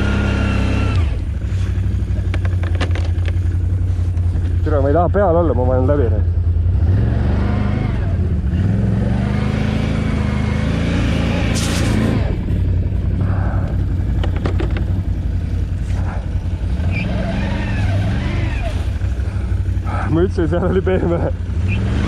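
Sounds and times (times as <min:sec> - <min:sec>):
quad bike engine running: 0:00.0 - 0:22.0.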